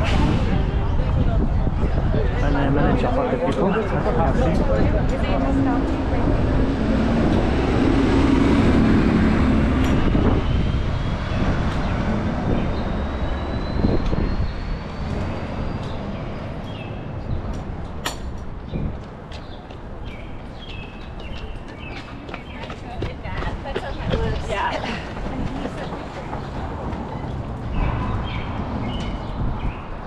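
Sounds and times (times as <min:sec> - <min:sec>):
city traffic: 0:00.0 - 0:30.0
heavy vehicle passing: 0:02.0 - 0:17.8, 0:21.0 - 0:30.0.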